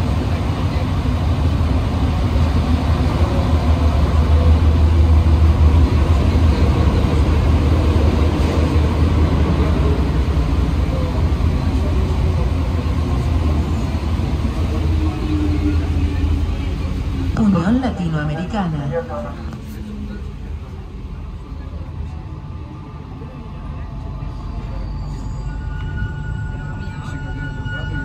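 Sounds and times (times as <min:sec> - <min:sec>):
metro car low rumble: 0:00.0 - 0:28.0.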